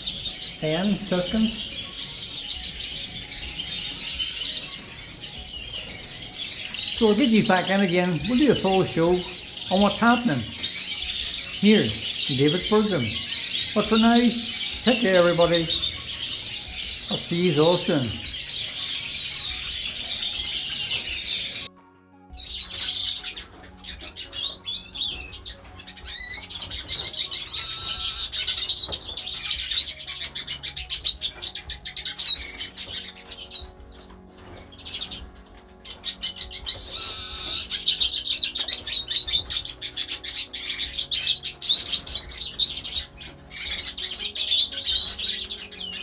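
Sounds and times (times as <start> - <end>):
finches chirping and twittering: 0.0 - 46.0.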